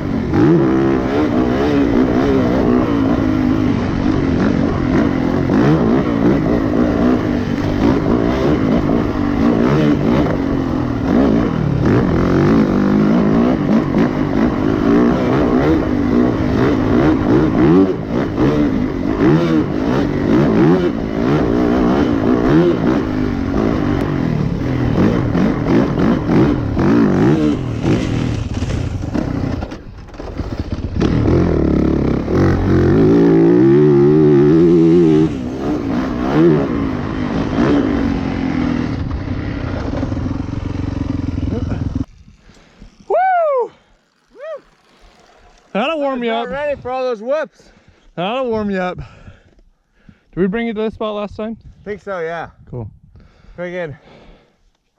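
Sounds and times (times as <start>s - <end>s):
dirt bike engine revving: 0.0s - 47.3s.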